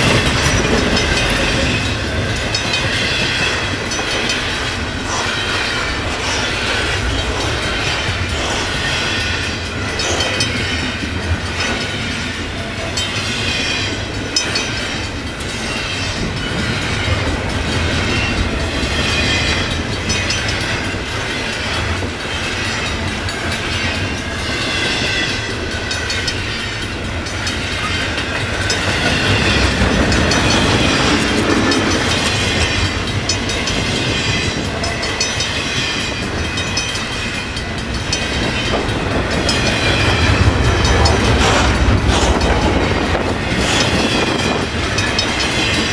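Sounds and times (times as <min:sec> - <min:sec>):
freight train rolling past: 0:00.0 - 0:45.9
wheels clicking over rail joints: 0:08.2 - 0:45.9.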